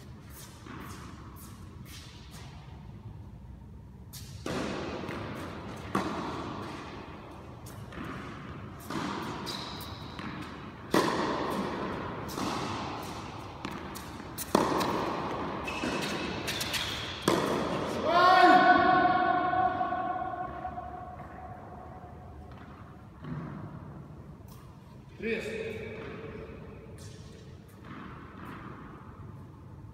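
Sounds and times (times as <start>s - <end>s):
tennis ball hit and bouncing: 0.0s - 3.2s, 4.1s - 24.8s, 25.8s - 29.6s.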